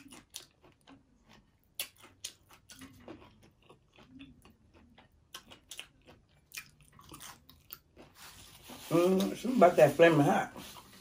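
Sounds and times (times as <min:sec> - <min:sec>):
close-up chewing: 0:00.0 - 0:09.5.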